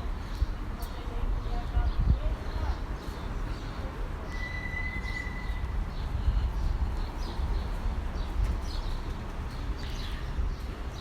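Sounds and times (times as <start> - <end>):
low street rumble: 0.0 - 11.0
small birds chirping: 0.0 - 11.0.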